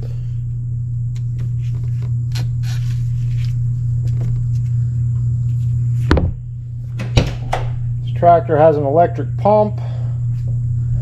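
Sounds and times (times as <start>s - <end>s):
electric fuel pump humming: 0.0s - 11.0s.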